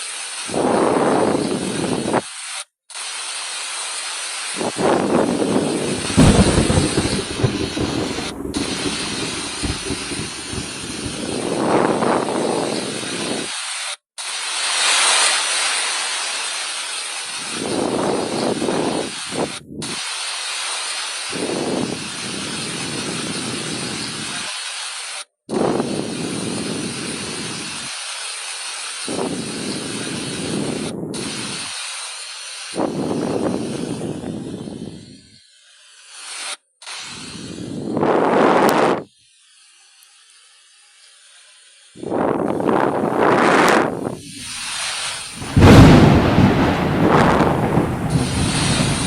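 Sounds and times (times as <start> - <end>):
rushing hissing outdoor noise: 0.0 - 35.1, 36.1 - 49.0.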